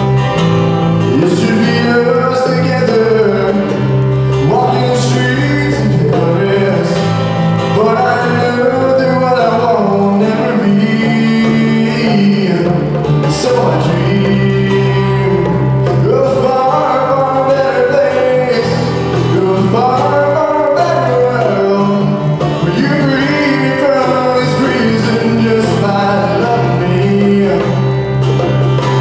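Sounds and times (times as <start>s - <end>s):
bongos played by hand: 0.0s - 29.0s
guitar: 0.0s - 29.0s
man singing: 0.9s - 29.0s.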